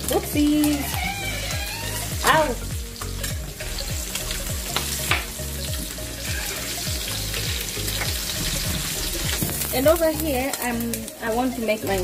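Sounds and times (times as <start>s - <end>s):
music with bass beat: 0.0s - 10.1s
food sizzling in a pan: 0.0s - 12.0s.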